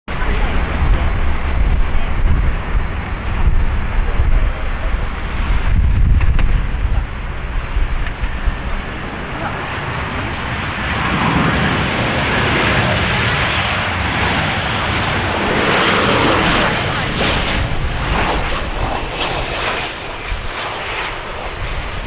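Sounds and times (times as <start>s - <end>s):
jet engines rushing: 0.1s - 22.0s.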